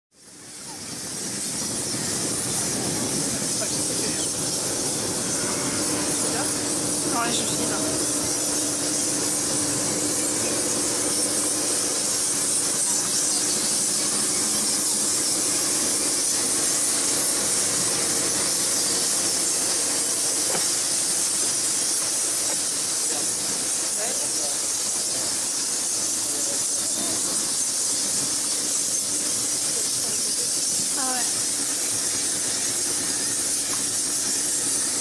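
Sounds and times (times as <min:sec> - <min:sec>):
bats chattering and squeaking: 0:00.2 - 0:35.0.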